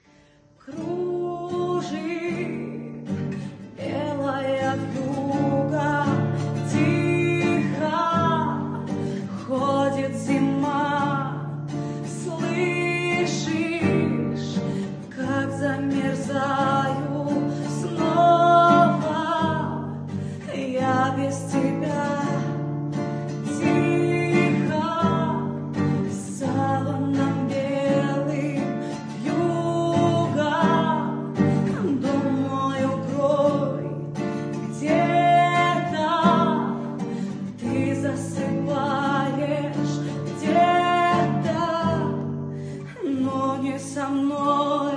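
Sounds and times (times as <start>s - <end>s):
guitar accompaniment: 0.0s - 44.9s
person singing: 0.0s - 44.9s.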